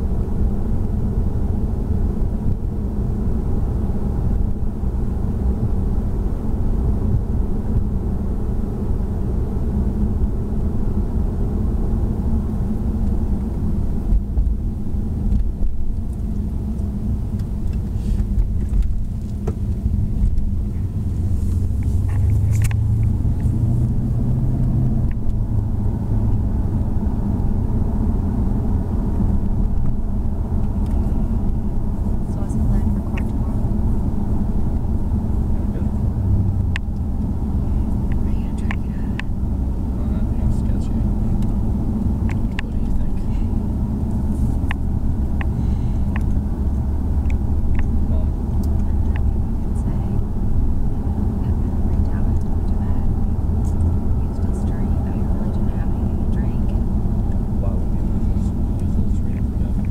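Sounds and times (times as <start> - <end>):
car driving rumble: 0.0 - 59.9
low hum: 0.0 - 59.9.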